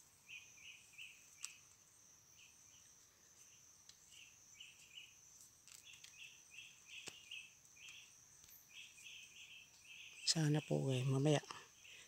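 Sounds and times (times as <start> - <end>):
insect calls: 0.0 - 12.0.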